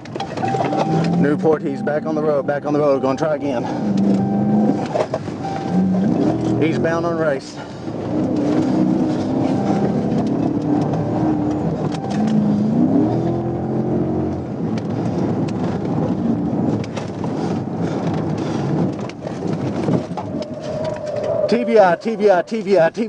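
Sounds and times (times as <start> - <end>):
car engine accelerating: 0.0 - 22.8
road noise: 0.0 - 23.0.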